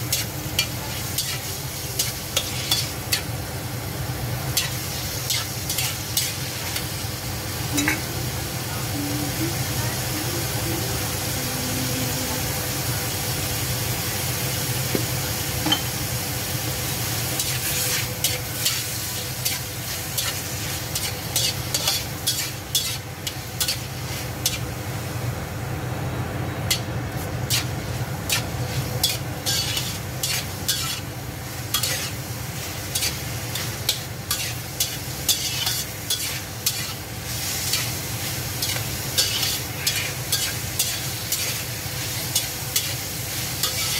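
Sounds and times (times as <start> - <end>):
shrimp sizzling in oil: 0.0 - 43.9.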